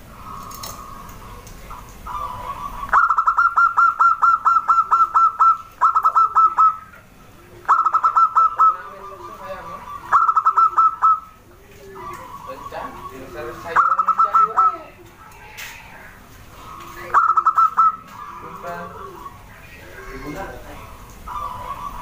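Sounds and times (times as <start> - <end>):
dove calling staccato notes: 0.0 - 22.0.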